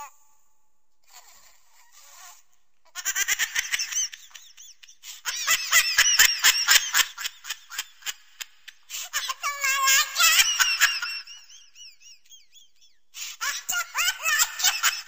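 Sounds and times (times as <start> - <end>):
manic cartoon laughter: 2.9 - 15.0.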